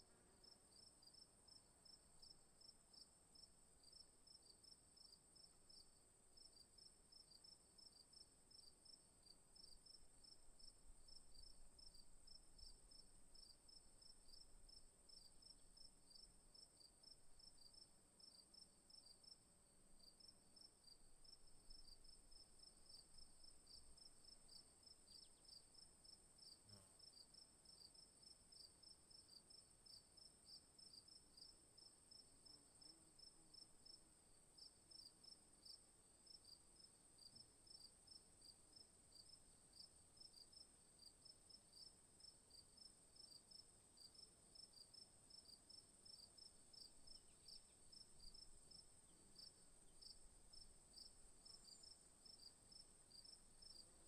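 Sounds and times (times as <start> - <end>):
crickets chirping: 0.4 - 54.0.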